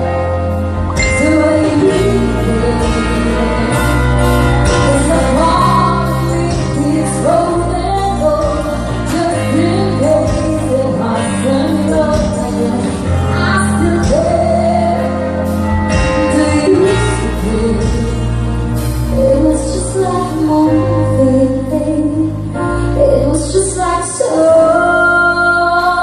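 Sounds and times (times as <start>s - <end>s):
band playing pop ballad: 0.0s - 26.0s
woman singing: 0.9s - 26.0s.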